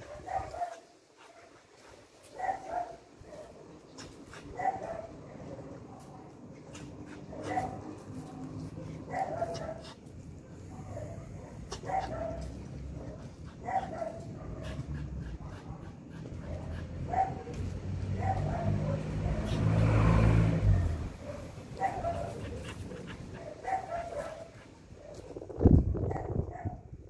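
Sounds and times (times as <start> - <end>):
dog barking: 0.0 - 1.6, 2.2 - 3.7, 4.4 - 25.4, 26.0 - 26.9
vehicle passing: 1.5 - 25.0.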